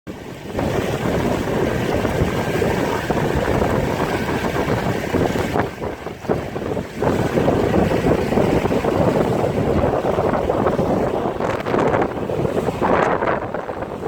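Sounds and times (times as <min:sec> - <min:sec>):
wind and water rushing: 0:00.1 - 0:14.0
wind buffeting microphone: 0:00.1 - 0:14.0.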